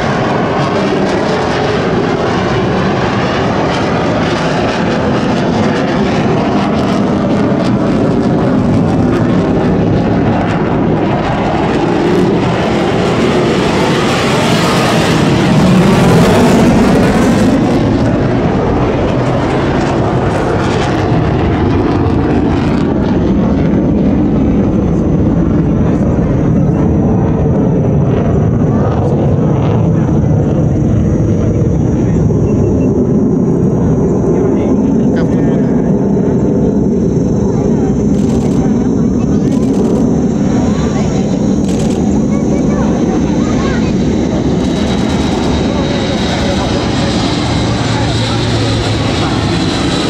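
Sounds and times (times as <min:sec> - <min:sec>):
jet fighter engine noise: 0:00.0 - 0:50.0.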